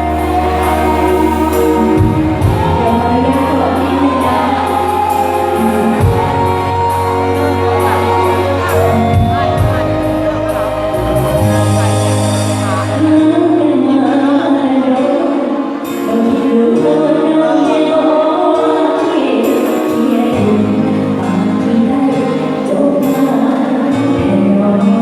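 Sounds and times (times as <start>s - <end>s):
live band playing: 0.0s - 25.0s
person singing: 0.0s - 25.0s.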